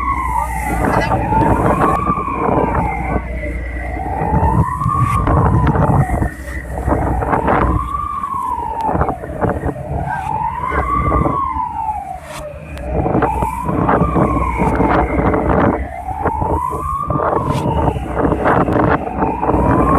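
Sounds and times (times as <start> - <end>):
emergency siren wailing: 0.0 - 19.9
wind and sea rumble: 0.0 - 19.9.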